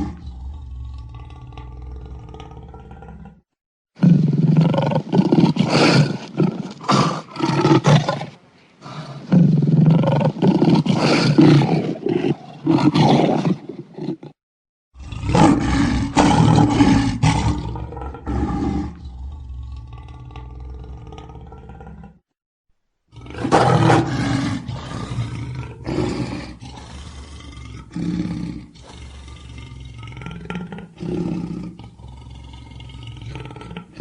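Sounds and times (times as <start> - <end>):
lions roaring and grunting: 0.0 - 14.4, 15.0 - 22.2, 23.1 - 34.0.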